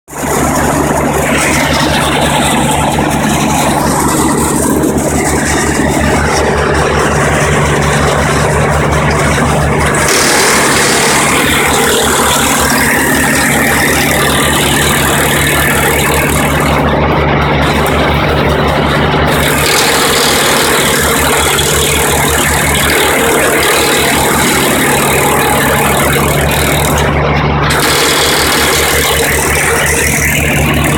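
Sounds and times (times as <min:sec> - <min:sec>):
harsh rattling grinding: 0:00.1 - 0:30.9
tree grinder engine running: 0:00.1 - 0:30.9.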